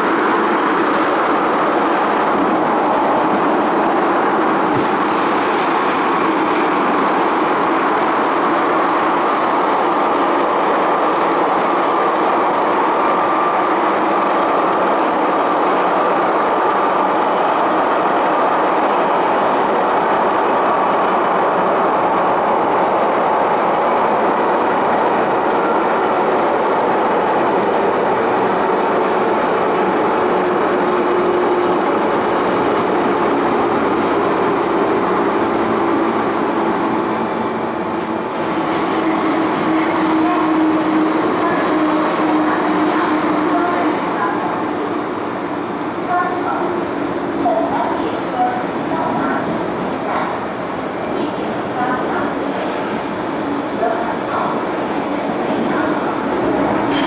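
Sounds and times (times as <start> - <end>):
metro train rumbling in tunnel: 0.0 - 57.0.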